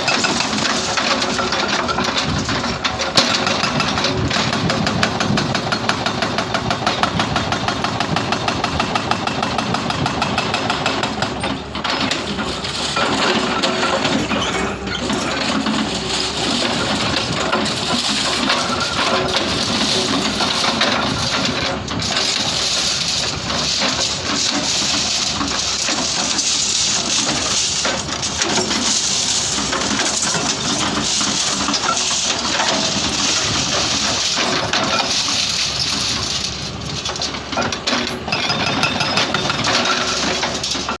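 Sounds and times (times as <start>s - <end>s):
excavator diesel engine under load: 0.0s - 41.0s
hydraulic breaker hammering: 0.0s - 41.0s.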